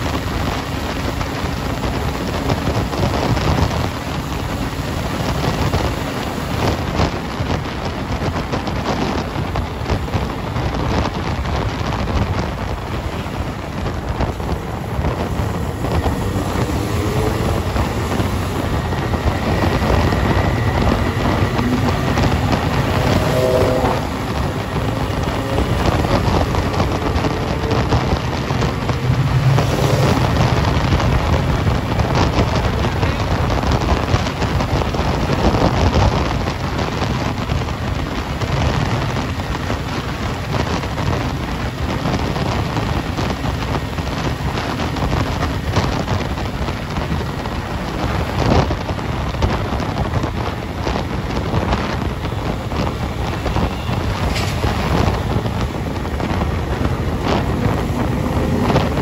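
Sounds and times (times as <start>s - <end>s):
motorcycle engine and tyre noise: 0.0s - 59.0s
wind rushing over microphone: 0.0s - 59.0s.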